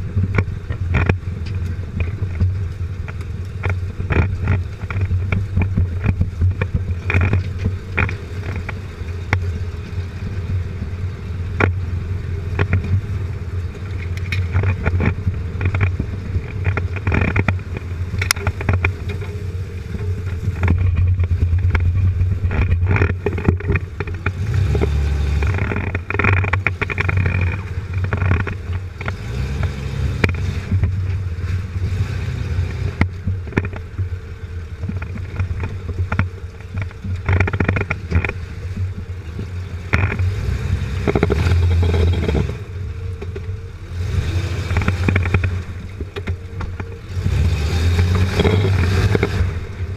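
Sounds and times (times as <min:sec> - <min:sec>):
car engine droning: 0:00.0 - 0:49.9
suspension knocks and rattles: 0:00.0 - 0:49.9.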